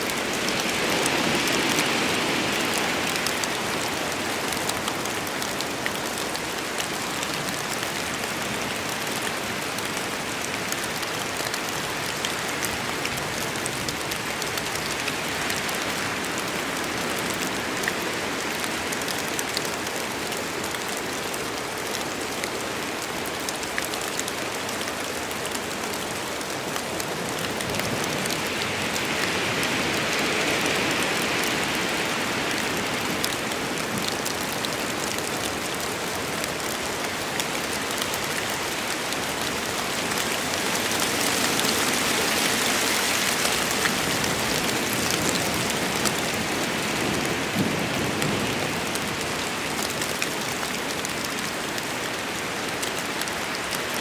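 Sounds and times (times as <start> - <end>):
heavy rain on forest: 0.0 - 54.0.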